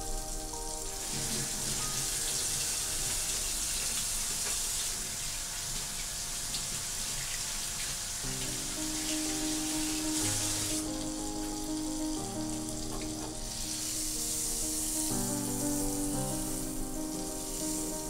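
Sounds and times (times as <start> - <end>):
butter sizzling in frying pan: 0.0 - 18.0.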